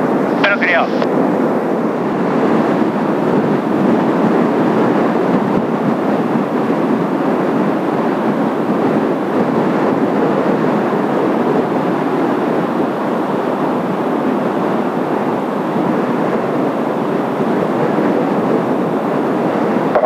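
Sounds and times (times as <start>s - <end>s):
jet roar: 0.0s - 20.0s.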